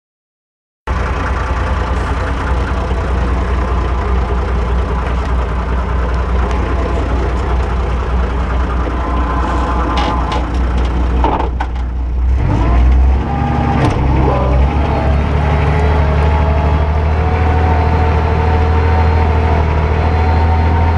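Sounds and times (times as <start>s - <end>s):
tractor engine running: 0.9s - 20.9s.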